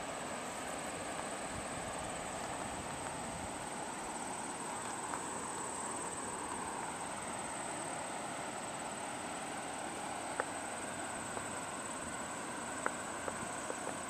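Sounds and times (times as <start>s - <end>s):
background hiss: 0.0s - 14.0s
high-pitched insect trill: 0.0s - 14.0s.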